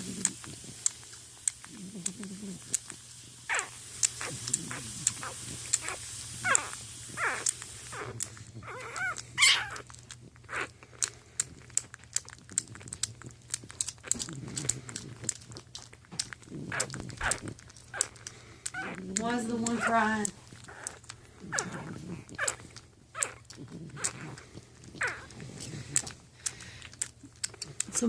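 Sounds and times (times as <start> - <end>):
low steady hum: 0.0 - 28.0
puppies whining and squealing: 0.0 - 28.0.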